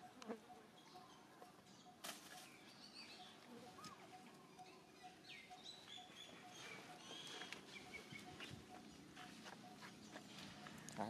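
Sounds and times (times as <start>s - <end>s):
faint high chirps: 0.0s - 11.0s.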